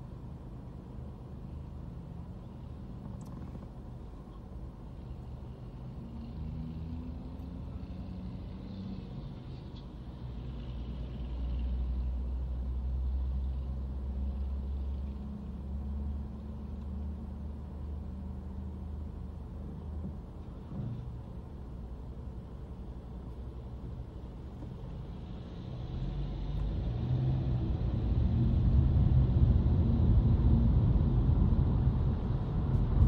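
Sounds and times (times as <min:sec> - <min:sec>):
car engine and tyre rumble: 0:00.0 - 0:33.0.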